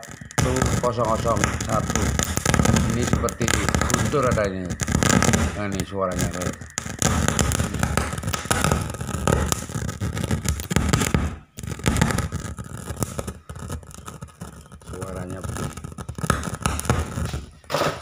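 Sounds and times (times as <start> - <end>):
speaker crackling rumble: 0.0 - 18.0.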